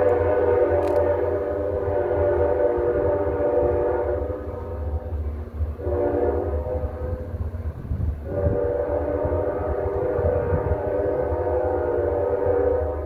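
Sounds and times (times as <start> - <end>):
train horn blasts: 0.0 - 13.0.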